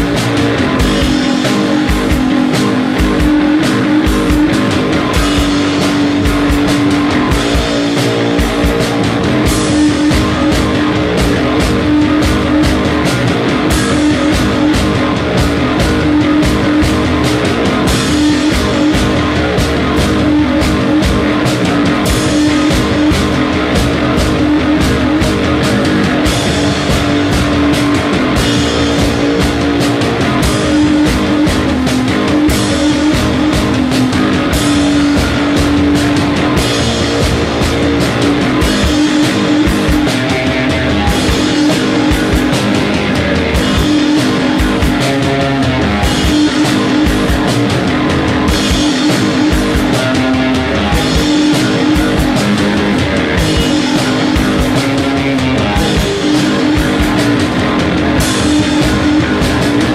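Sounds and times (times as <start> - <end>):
rock music with guitar and drums: 0.0 - 59.9.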